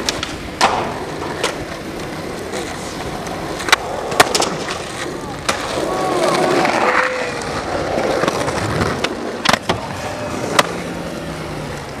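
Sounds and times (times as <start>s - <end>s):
skateboard clacks: 0.0s - 12.0s
skateboard wheels rolling: 0.0s - 12.0s.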